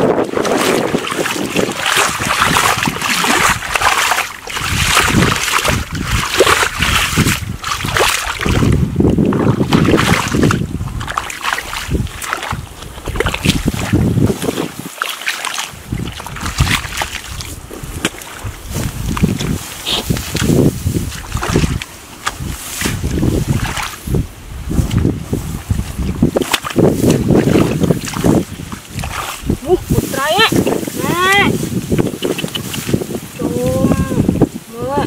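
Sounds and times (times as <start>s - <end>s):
muddy water sloshing: 0.0s - 35.0s.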